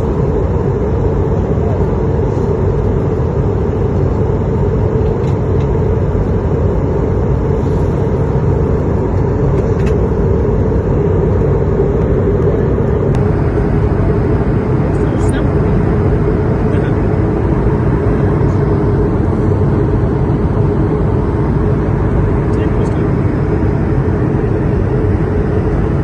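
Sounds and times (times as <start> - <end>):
airliner cabin engine noise: 0.0 - 26.0.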